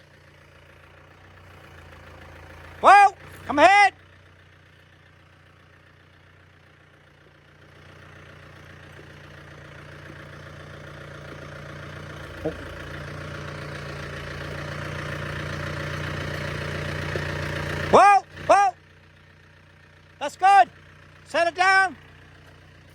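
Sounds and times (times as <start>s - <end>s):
tractor diesel engine running: 0.0s - 22.9s.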